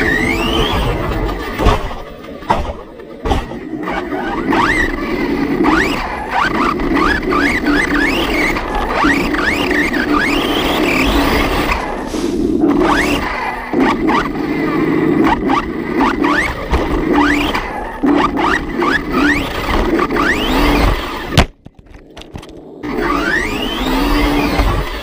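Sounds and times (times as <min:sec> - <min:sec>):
electric motor whine: 0:00.0 - 0:25.0
rumble of tyres and gears: 0:00.0 - 0:25.0.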